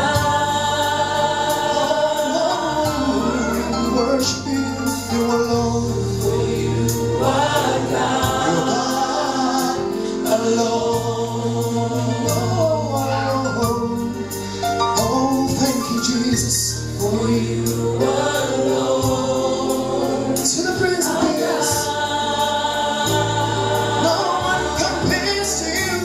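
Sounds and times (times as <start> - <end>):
band with bass: 0.0 - 26.0
choir singing: 0.0 - 26.0.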